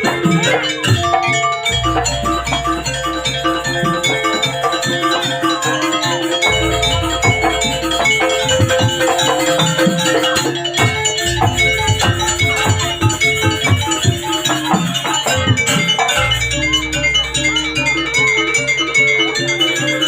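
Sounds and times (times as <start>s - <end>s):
gamelan ensemble playing: 0.0s - 20.0s
metallophone tones: 0.0s - 20.0s.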